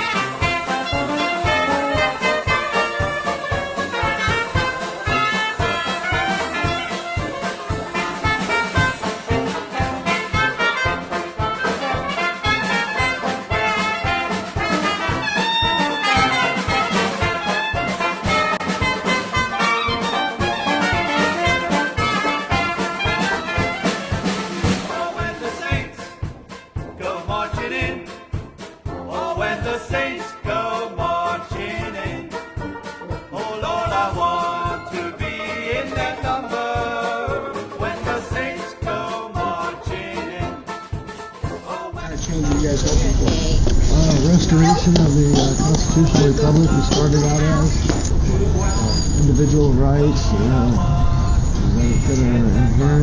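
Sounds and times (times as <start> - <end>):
jazz band playing live: 0.0 - 53.0
trombone: 0.0 - 53.0
trumpet: 0.0 - 53.0.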